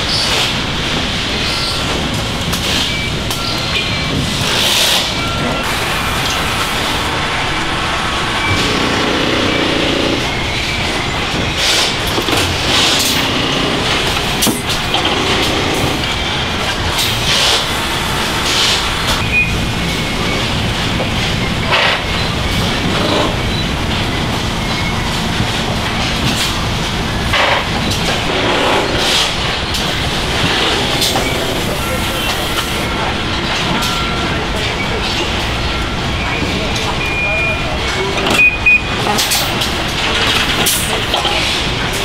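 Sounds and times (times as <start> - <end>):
factory machinery din: 0.0 - 42.0.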